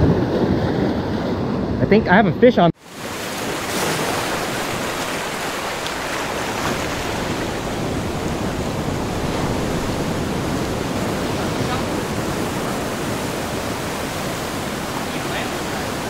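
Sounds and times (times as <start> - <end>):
ocean surf rushing: 2.7 - 16.0.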